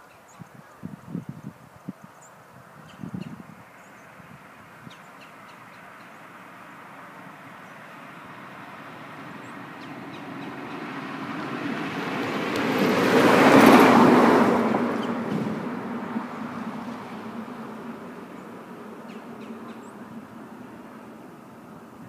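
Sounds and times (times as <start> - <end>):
vehicle passing by: 3.6 - 22.0.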